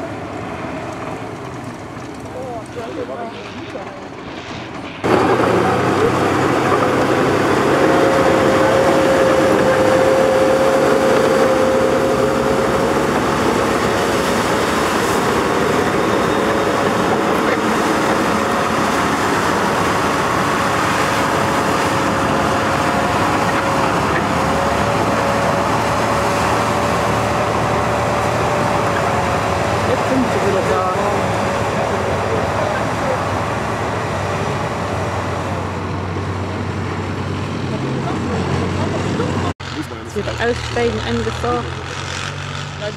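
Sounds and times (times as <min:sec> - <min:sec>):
steady whine: 0:00.0 - 0:42.0
diesel engine running: 0:00.0 - 0:42.9
steel tracks clattering: 0:00.0 - 0:42.9.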